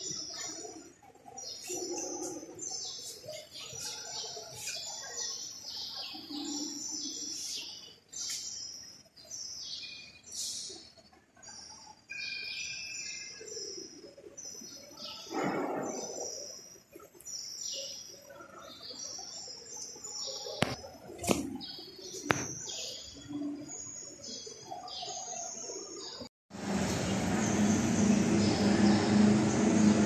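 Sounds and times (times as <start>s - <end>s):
small birds chirping: 0.0s - 26.3s, 26.9s - 30.0s.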